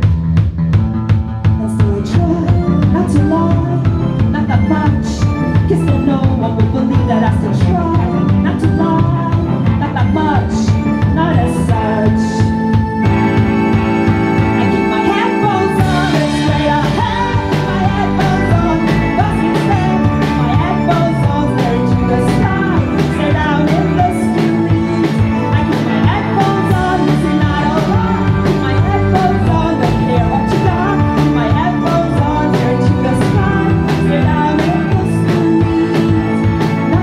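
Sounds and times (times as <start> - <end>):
drums keeping a steady beat: 0.0 - 37.0
live band playing: 0.0 - 37.0
woman singing: 1.5 - 13.1, 14.3 - 37.0.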